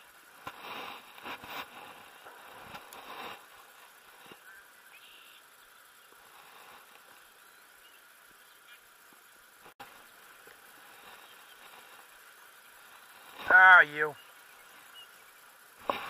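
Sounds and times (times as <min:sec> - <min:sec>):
steady high hiss: 0:00.0 - 0:16.0
faint ticks: 0:00.2 - 0:13.5.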